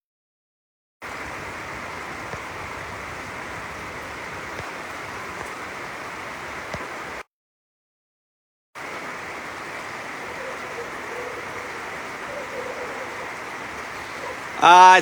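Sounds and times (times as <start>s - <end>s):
heavy rain: 1.0s - 7.2s, 8.8s - 15.0s.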